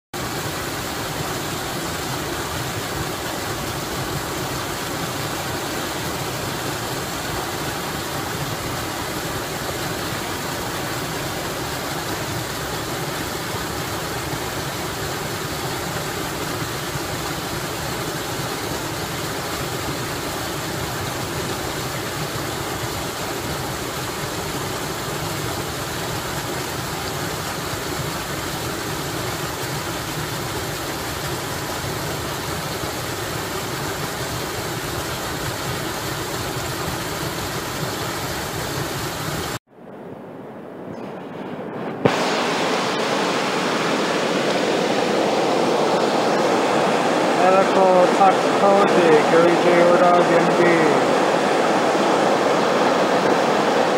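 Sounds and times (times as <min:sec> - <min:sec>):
waterfall splashing into pool: 0:00.2 - 0:39.6, 0:42.0 - 0:53.9.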